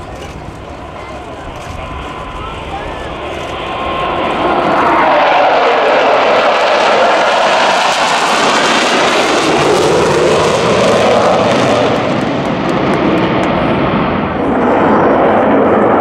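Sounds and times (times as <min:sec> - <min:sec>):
jet engines flying over: 0:00.0 - 0:16.0.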